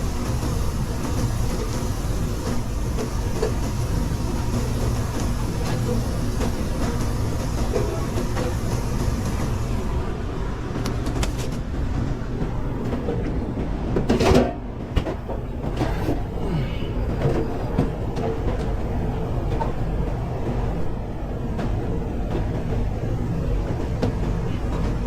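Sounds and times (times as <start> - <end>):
ventilation rumble: 0.0 - 25.0.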